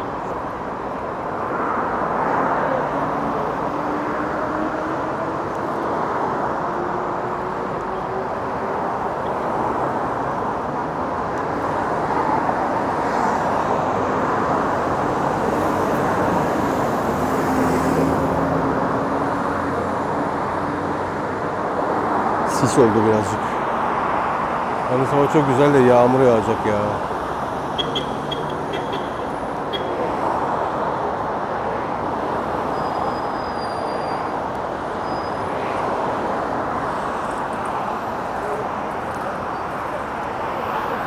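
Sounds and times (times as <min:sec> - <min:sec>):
busy road traffic: 0:00.0 - 0:41.0
low hum of large vehicles: 0:00.0 - 0:41.0.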